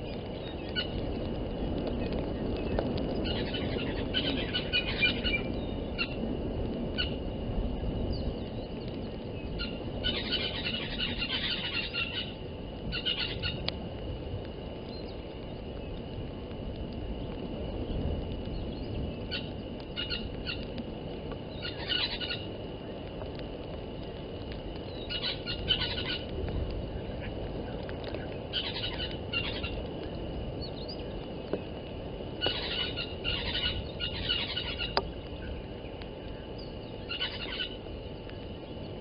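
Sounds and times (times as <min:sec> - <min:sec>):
wild birds chirping: 0:00.0 - 0:06.3, 0:06.9 - 0:13.7, 0:14.8 - 0:16.2, 0:17.0 - 0:23.1, 0:24.0 - 0:31.7, 0:32.4 - 0:39.0
low wind rumble: 0:00.0 - 0:39.0.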